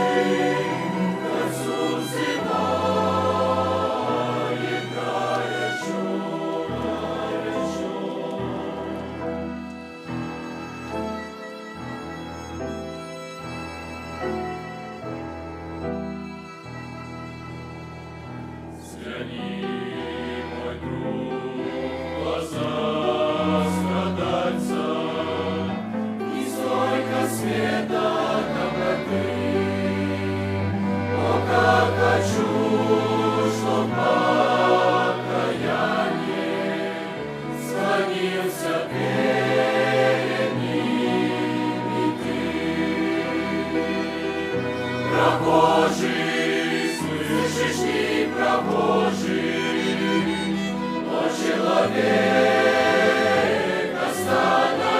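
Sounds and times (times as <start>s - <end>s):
youth choir singing a hymn: 0.0s - 9.9s, 18.8s - 54.9s.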